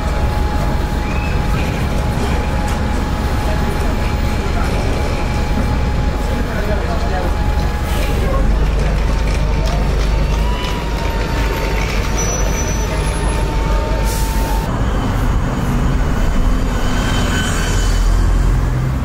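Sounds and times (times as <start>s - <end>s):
heavy vehicle engine rumbling: 0.0s - 19.0s.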